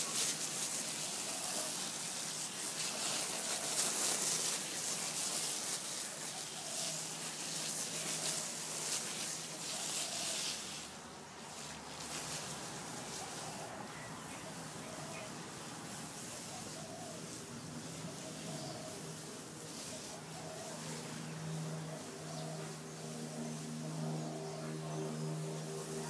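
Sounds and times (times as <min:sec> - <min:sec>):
garden hose spraying on straw: 0:00.0 - 0:26.0.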